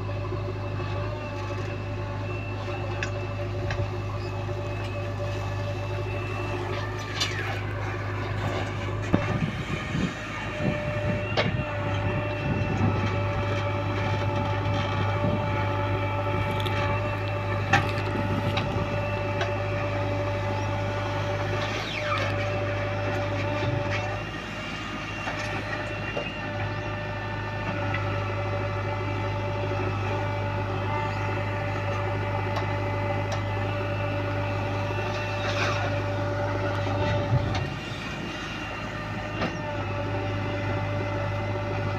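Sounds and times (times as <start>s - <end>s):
diesel engine running under load: 0.0s - 41.9s
steady whine: 0.0s - 41.9s.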